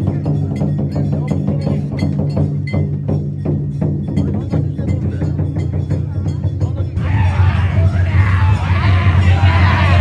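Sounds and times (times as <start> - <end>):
rapid drums and percussion: 0.0 - 10.0.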